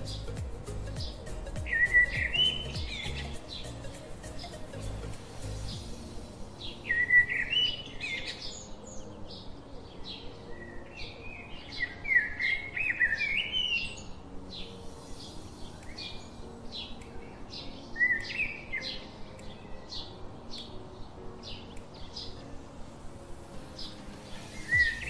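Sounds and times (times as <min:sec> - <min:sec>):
small birds chirping and twittering: 0:00.0 - 0:25.0.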